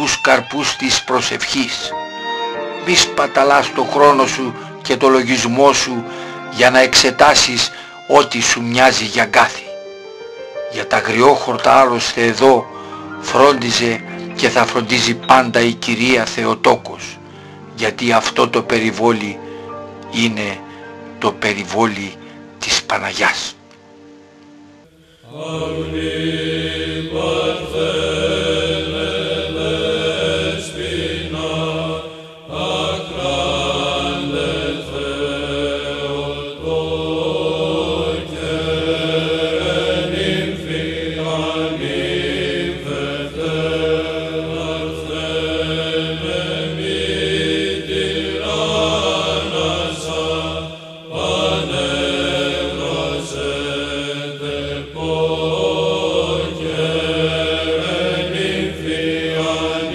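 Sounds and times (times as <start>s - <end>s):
voices chanting slow melody: 0.0s - 59.9s.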